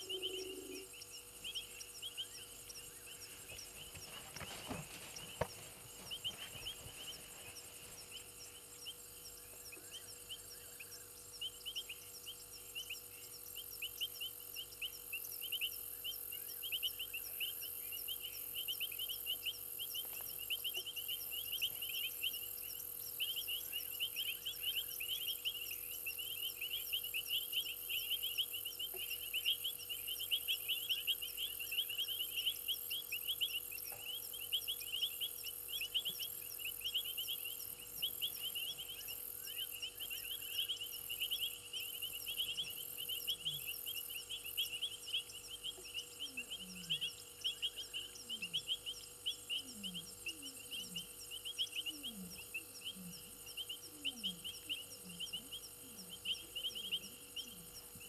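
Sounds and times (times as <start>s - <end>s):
frogs chirping: 0.0s - 58.0s.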